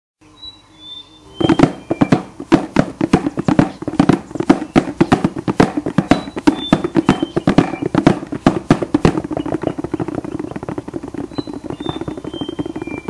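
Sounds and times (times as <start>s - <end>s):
rapid drum strikes: 1.4s - 13.0s.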